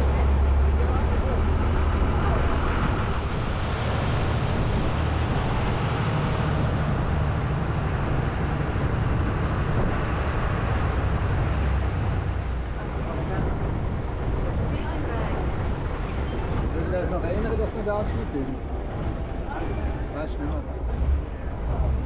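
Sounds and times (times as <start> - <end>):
boat engine rumbling: 0.0 - 22.0
wind buffeting microphone: 0.0 - 22.0.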